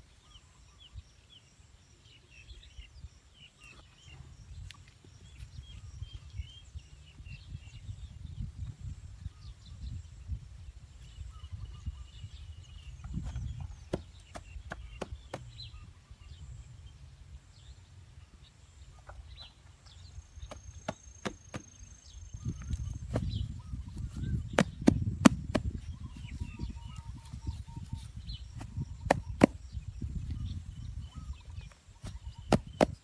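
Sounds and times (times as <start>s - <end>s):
faint bird chirps: 0.0s - 33.0s.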